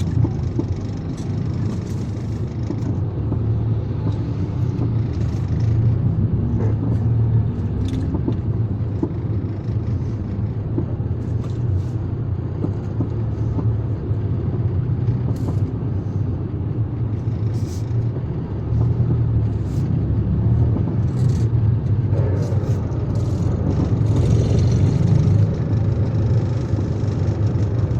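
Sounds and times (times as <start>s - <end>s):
vehicle engine and road rumble: 0.0s - 27.9s.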